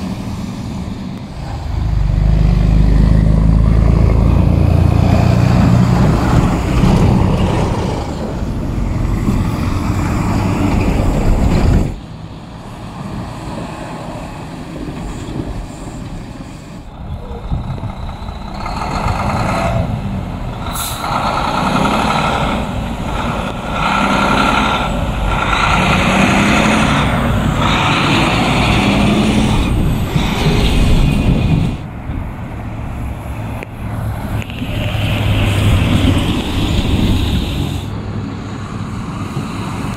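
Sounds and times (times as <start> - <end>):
heavy trucks driving past: 0.0 - 39.9.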